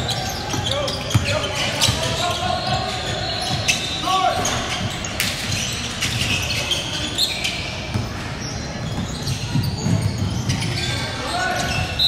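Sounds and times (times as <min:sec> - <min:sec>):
sneakers squeaking on floor: 0:00.0 - 0:12.0.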